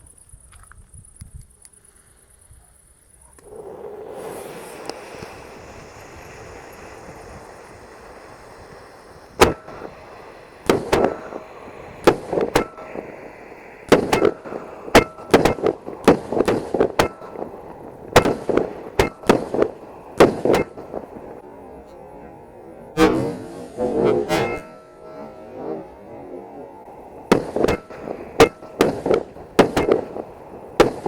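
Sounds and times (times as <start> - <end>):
firework hissing: 1.7 - 31.0
loud firework bangs: 4.1 - 21.4, 22.9 - 31.0.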